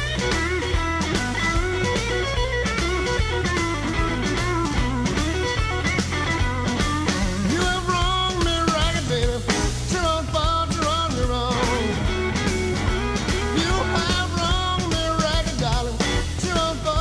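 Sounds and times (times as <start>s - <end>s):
lead guitar melody: 0.0s - 17.0s
rock music with electric guitar: 0.0s - 17.0s.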